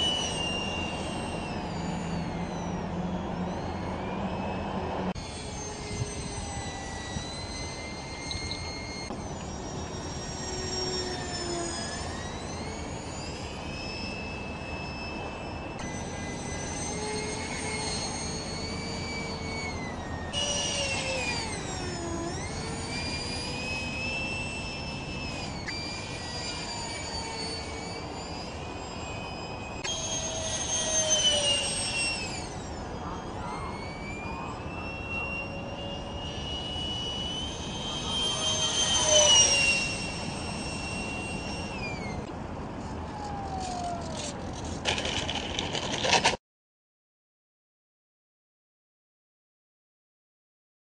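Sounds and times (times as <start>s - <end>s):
model jet high-pitched whine: 0.0s - 46.4s.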